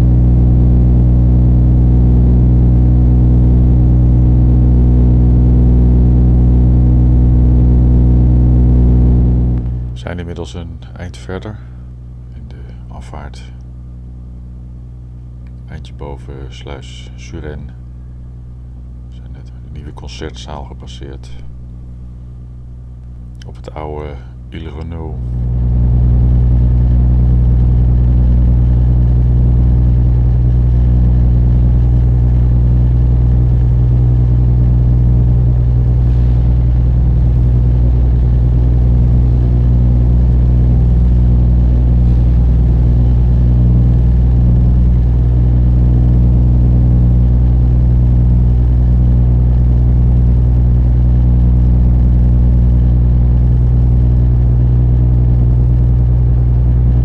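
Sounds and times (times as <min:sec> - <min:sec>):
boat diesel engine droning: 0:00.0 - 0:57.0.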